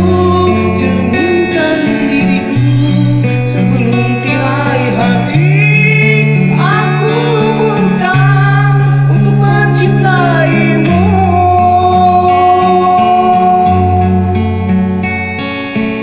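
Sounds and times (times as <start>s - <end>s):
person singing: 0.0s - 14.7s
bass line: 0.0s - 15.3s
guitar: 0.0s - 16.0s.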